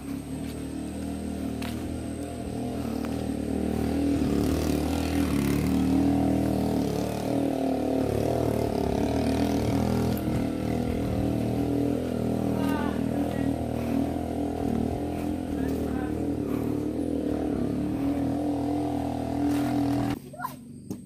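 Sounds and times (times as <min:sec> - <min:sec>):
vehicle engine running: 0:00.0 - 0:20.2.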